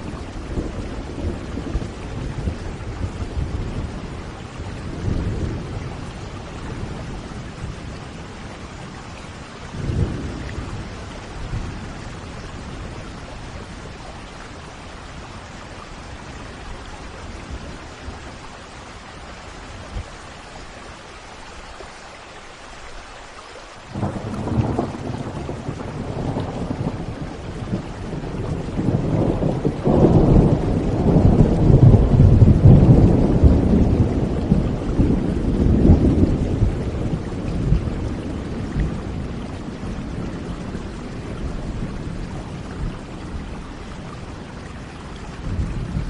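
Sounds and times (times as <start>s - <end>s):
thunder rumbling: 0.0s - 14.9s, 23.9s - 46.0s
rain falling: 0.0s - 46.0s.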